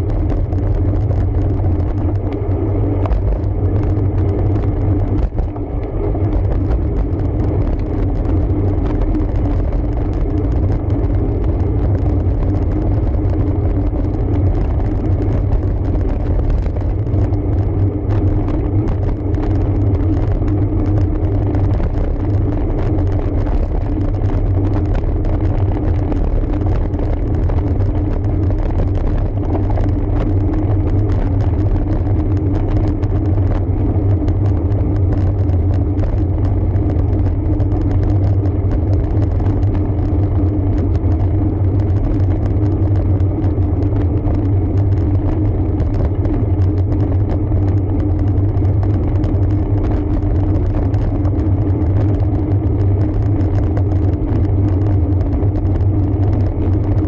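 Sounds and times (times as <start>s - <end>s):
bike riding rumble: 0.0s - 57.0s.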